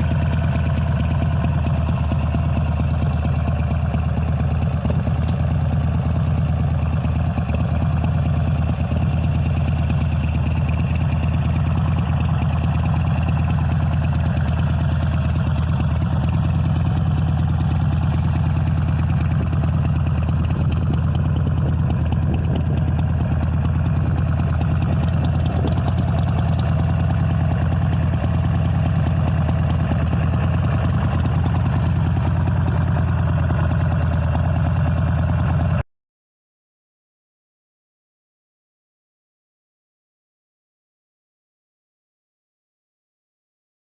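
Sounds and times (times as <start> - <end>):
motorcycle engine idling: 0.0 - 35.8.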